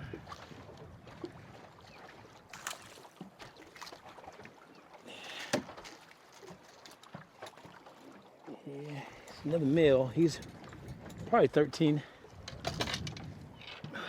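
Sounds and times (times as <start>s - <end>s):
light water splashing: 0.0s - 14.0s.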